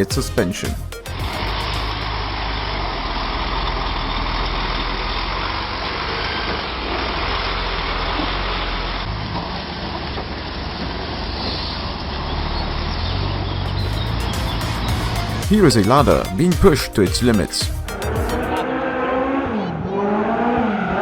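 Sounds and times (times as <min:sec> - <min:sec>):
truck diesel engine running: 0:00.0 - 0:18.6.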